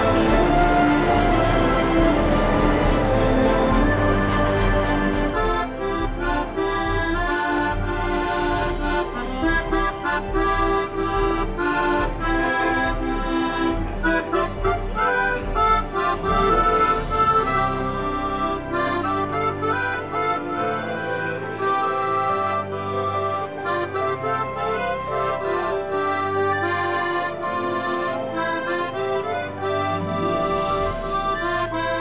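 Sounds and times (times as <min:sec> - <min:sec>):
accordion playing a tune: 0:00.0 - 0:32.0.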